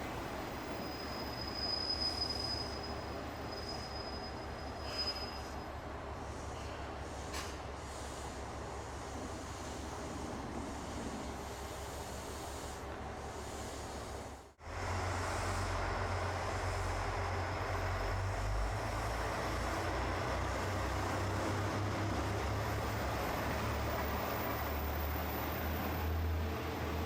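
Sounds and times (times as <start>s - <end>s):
diesel train engine hum: 0.0s - 27.0s
train running noise: 0.0s - 27.0s.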